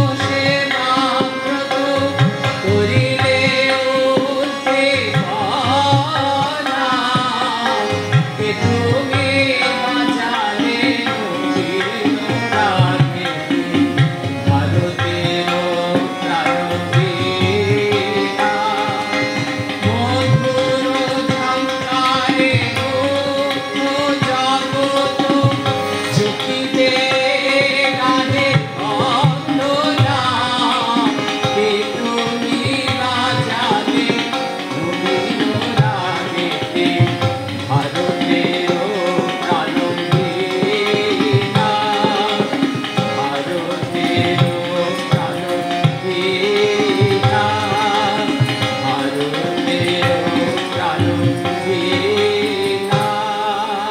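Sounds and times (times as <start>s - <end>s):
harmonium: 0.0s - 53.9s
man singing: 0.0s - 53.9s.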